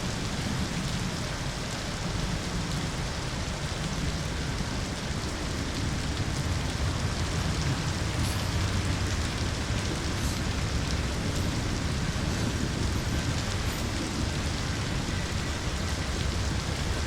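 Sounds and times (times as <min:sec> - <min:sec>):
heavy rain hissing: 0:00.0 - 0:17.0
low rumble: 0:00.0 - 0:17.0.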